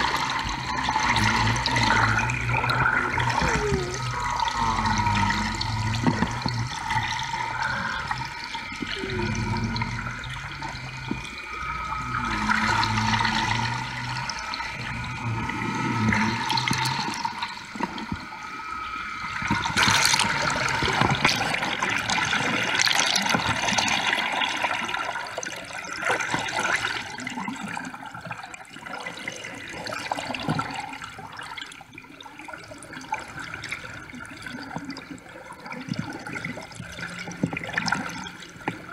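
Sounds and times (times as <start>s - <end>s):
faint steady hum: 0.0s - 38.9s
water rushing underwater: 0.0s - 38.9s.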